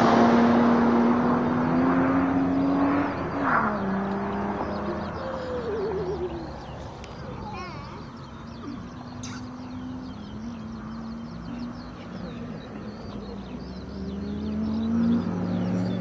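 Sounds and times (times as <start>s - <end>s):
birds chirping faintly: 0.0s - 16.0s
rotary engine revving: 0.0s - 16.0s.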